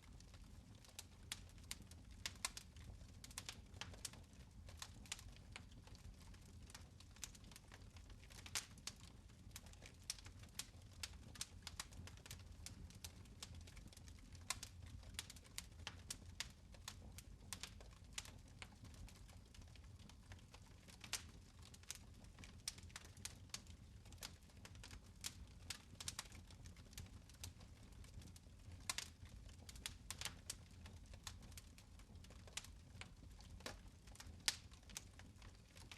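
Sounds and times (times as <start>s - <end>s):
fire crackling in a fireplace: 0.0s - 35.9s.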